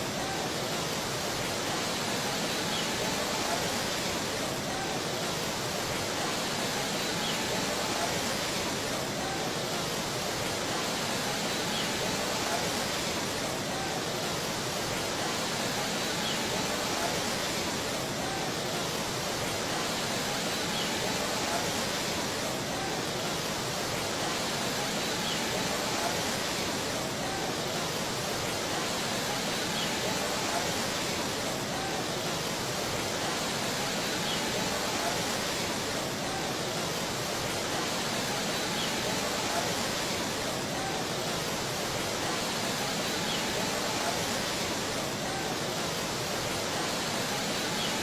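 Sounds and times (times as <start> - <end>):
fast-flowing water rushing: 0.0 - 48.0.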